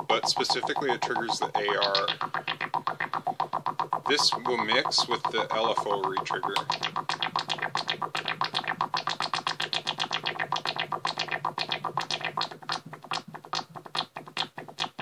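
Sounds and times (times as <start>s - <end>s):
synthesizer blips: 0.0s - 15.0s.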